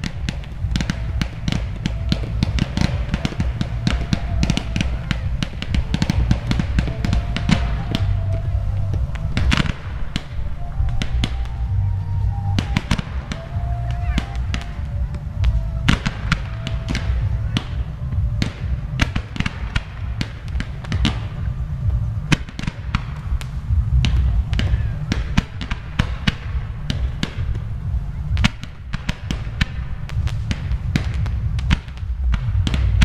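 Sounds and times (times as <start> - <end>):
fireworks bangs and crackles: 0.0 - 33.0
low booming rumble: 0.0 - 33.0.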